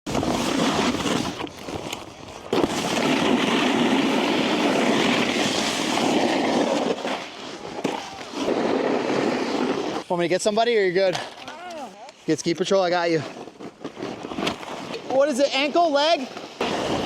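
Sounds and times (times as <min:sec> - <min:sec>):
ski edges scraping on snow: 0:00.1 - 0:17.0.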